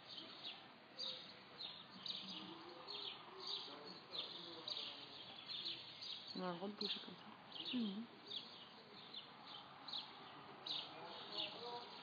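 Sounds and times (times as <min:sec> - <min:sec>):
small birds chirping faintly: 0:00.0 - 0:12.0.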